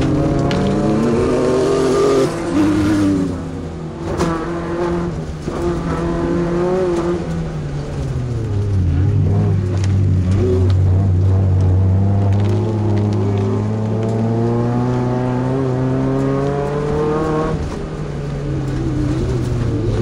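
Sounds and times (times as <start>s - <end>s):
truck engine revving: 0.0s - 17.9s.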